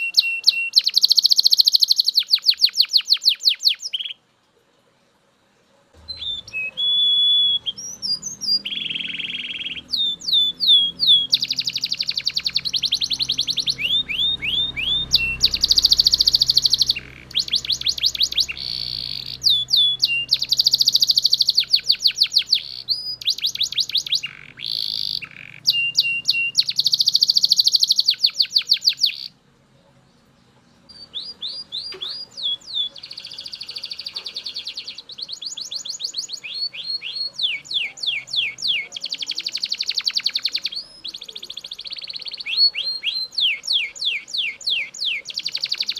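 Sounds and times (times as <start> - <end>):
canary singing trills: 0.0 - 4.2, 6.0 - 45.9.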